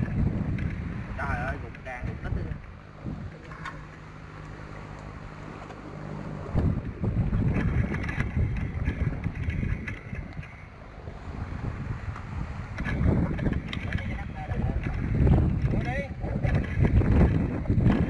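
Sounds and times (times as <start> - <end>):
steady low hum: 0.0 - 18.0
wind gusting across microphone: 0.0 - 18.0.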